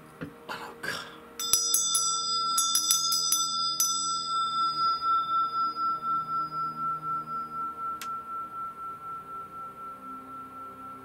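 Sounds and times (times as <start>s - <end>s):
small metal bell ringing: 1.4s - 11.0s.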